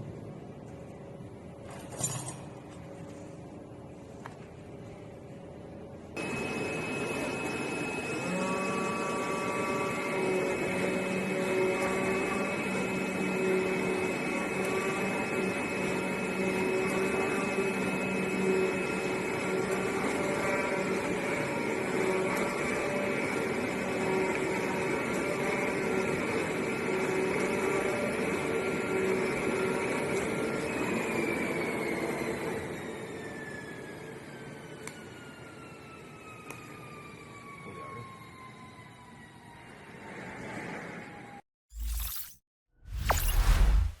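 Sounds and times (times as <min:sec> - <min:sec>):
cutting machine hum and whine: 0:05.5 - 0:41.4.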